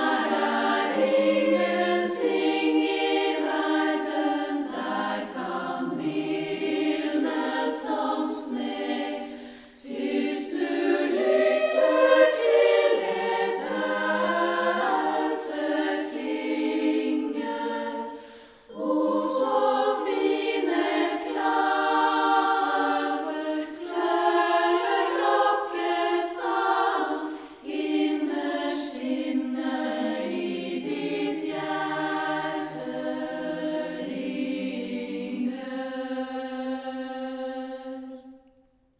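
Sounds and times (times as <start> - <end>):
women's choir singing a cappella: 0.0 - 38.6.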